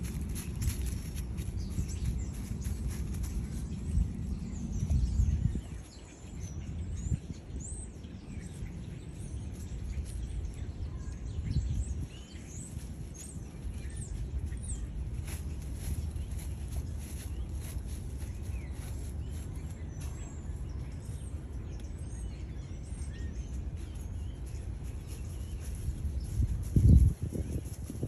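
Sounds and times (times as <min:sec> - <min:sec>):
low outdoor rumble: 0:00.0 - 0:28.0
small birds chirping: 0:00.0 - 0:28.0.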